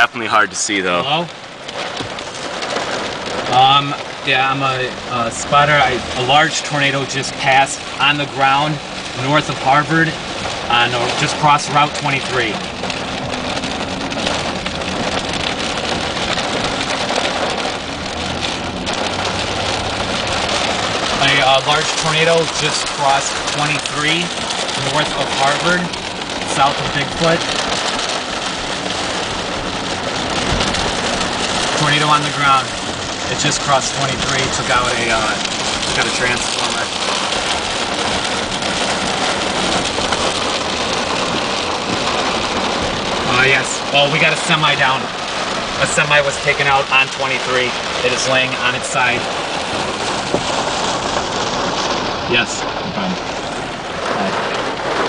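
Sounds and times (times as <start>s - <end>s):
car engine running: 0.0s - 55.0s
heavy rain pelting a car: 0.0s - 55.0s.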